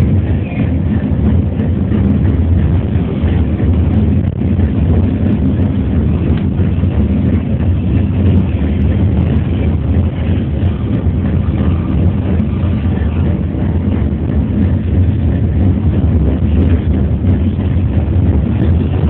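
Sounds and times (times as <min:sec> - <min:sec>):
funicular running gear rumbling: 0:00.0 - 0:19.0.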